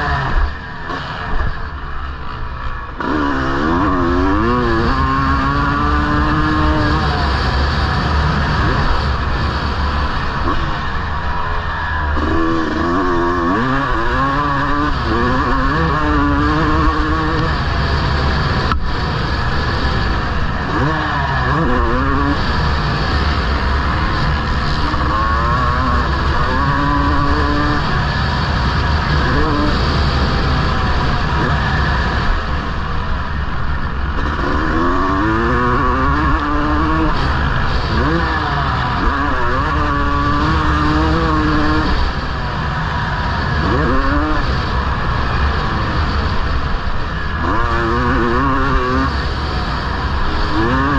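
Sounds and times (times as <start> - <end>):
motocross engine revving: 0.0 - 50.9
steady rush of noise: 0.0 - 50.9.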